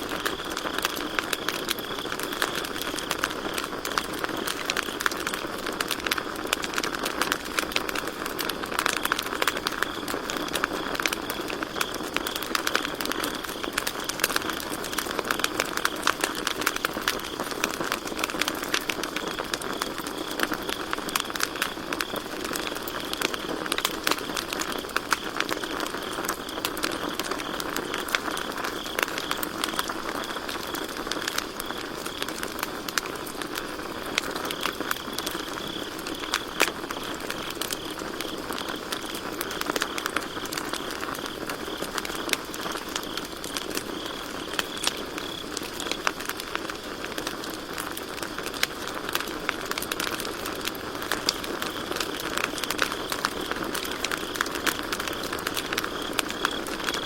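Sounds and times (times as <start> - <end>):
campfire crackling and popping: 0.0 - 57.0
crickets chirping faintly: 0.0 - 57.0.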